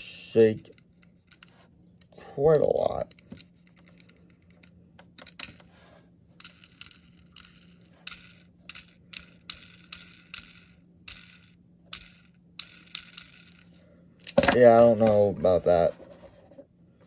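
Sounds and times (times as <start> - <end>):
toy car handling rustles and rattles: 0.7 - 16.5.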